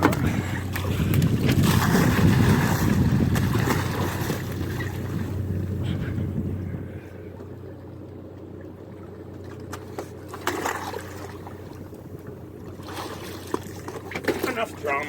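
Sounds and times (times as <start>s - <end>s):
water splashing: 0.0s - 5.8s, 8.4s - 15.0s
boat machinery humming: 0.0s - 15.0s.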